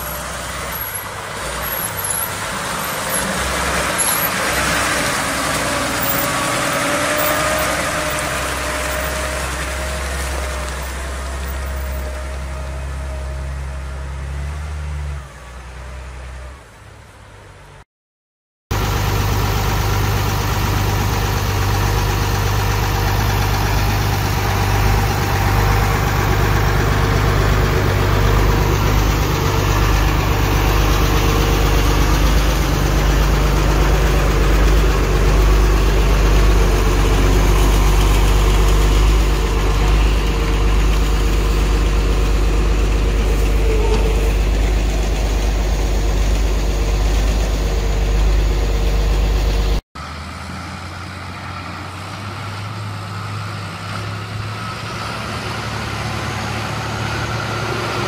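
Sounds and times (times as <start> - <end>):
diesel engine idling: 0.0 - 13.8, 18.7 - 58.0.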